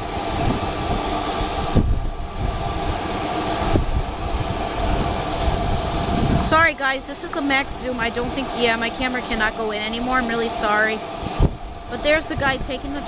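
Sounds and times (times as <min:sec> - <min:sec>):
steady hiss: 0:00.0 - 0:13.0
wind rumbling on microphone: 0:00.0 - 0:13.0.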